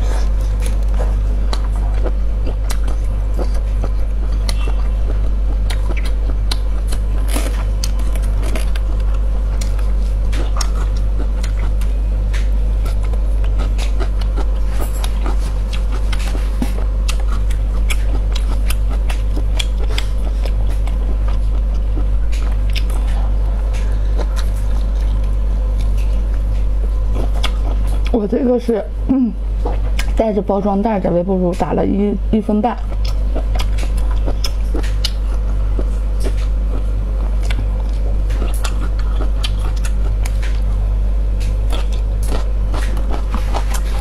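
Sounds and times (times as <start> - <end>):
biting and chewing: 0.0 - 30.3, 32.7 - 44.0
loud low hum: 0.0 - 44.0.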